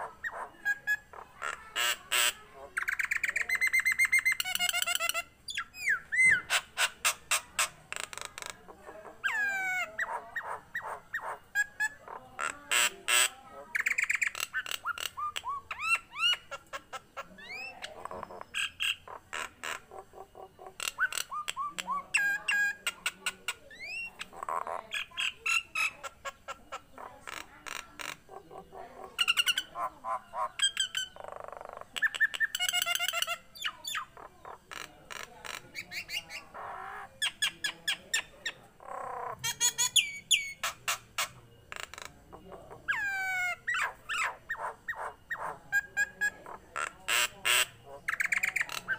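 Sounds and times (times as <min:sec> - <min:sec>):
myna bird singing: 0:00.0 - 0:48.9.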